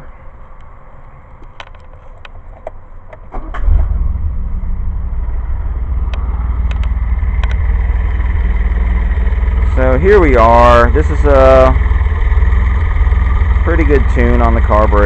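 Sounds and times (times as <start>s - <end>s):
car engine starting and idling: 1.4s - 15.0s.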